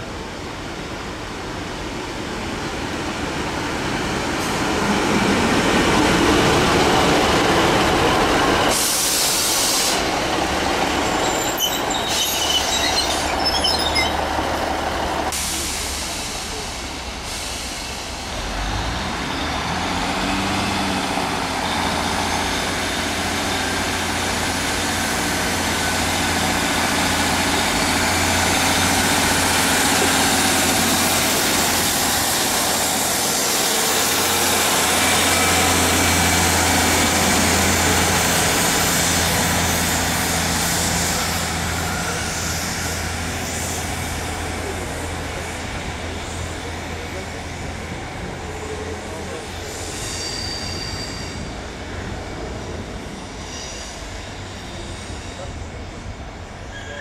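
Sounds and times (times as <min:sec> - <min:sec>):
diesel train engine running: 0:00.0 - 0:57.0
train wheels on rails: 0:00.1 - 0:57.0.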